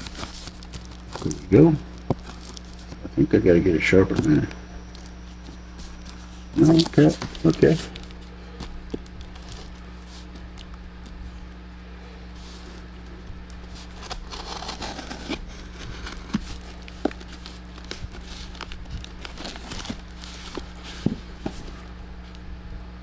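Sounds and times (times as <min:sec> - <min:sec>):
package crinkling and rustling: 0:00.0 - 0:23.0.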